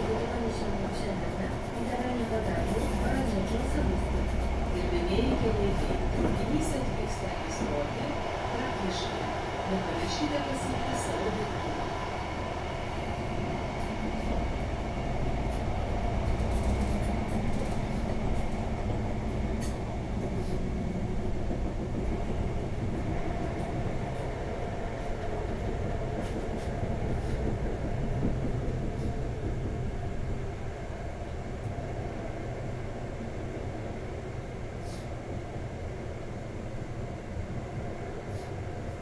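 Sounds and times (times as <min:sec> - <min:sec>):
train engine and wheels rumbling: 0:00.0 - 0:39.0.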